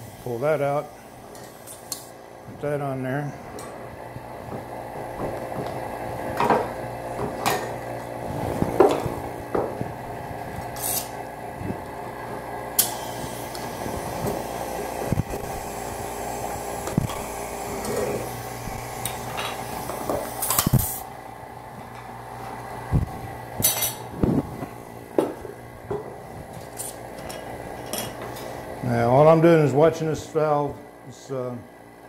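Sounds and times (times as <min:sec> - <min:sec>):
vacuum pump humming: 0:00.0 - 0:32.0.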